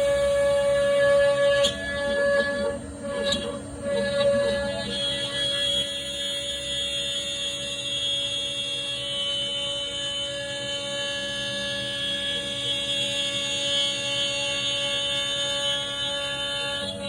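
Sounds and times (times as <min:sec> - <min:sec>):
engraving machine high whine: 0:00.0 - 0:17.0.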